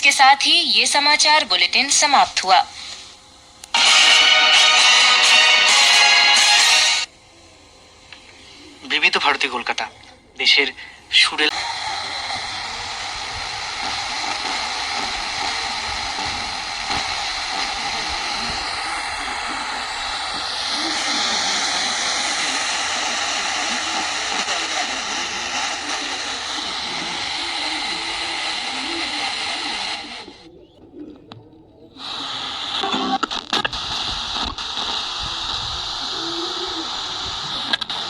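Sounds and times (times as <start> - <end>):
faint broadcast voice: 0.0 - 3.0, 8.1 - 38.0
radio static hiss: 0.0 - 38.0.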